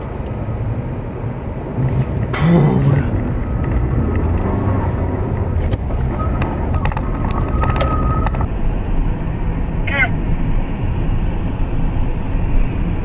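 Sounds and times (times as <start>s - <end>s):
thin steady whine: 0.0s - 13.0s
vehicle engine and road noise: 0.0s - 13.0s.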